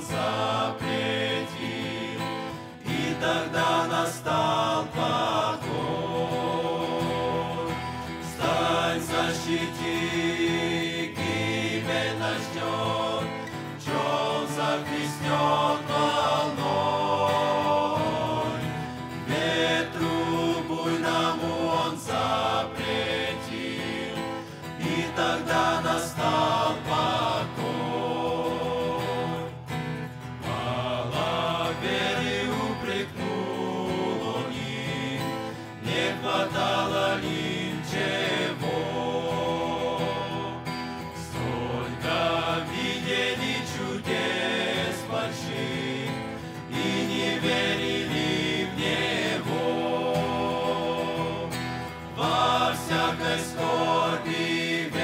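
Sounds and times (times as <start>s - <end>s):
acoustic guitar: 0.0s - 55.0s
male choir singing a hymn: 0.0s - 55.0s.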